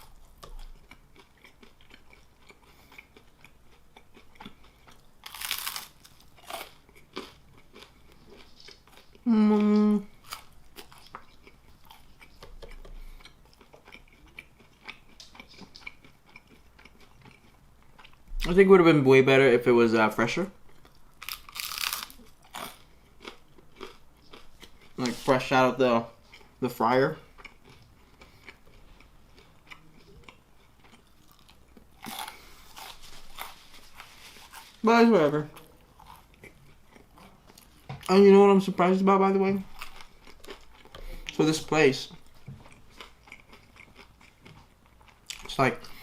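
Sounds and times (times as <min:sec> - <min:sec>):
chewing crunches: 0:00.0 - 0:18.2, 0:20.7 - 0:25.3, 0:27.2 - 0:34.8, 0:35.5 - 0:38.1, 0:39.7 - 0:41.5, 0:42.1 - 0:46.0.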